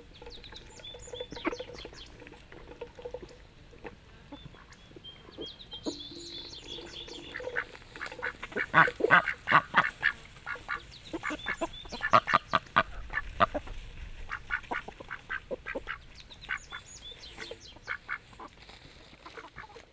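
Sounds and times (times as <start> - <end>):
ducks quacking: 0.0 - 19.9.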